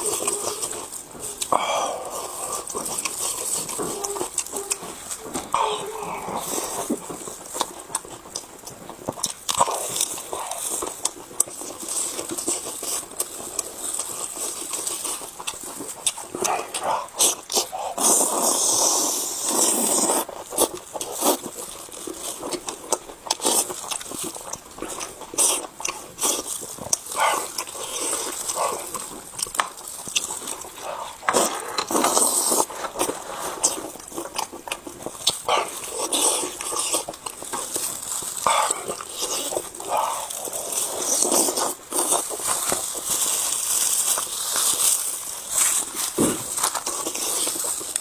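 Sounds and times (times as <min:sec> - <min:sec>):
man chewing food: 0:00.0 - 0:48.0.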